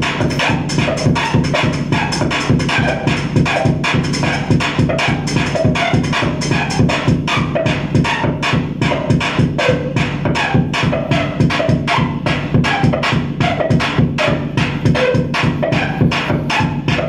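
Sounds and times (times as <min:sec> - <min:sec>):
harsh noise pulses: 0:00.0 - 0:17.0.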